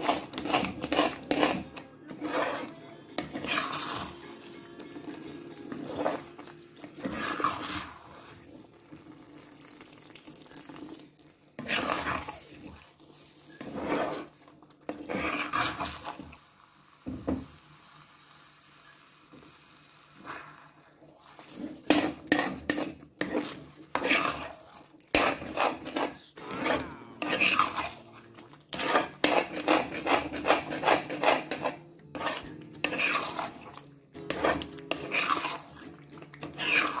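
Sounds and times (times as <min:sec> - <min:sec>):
spatula scraping a pan: 0:00.0 - 0:09.0, 0:11.5 - 0:16.4, 0:21.0 - 0:37.0.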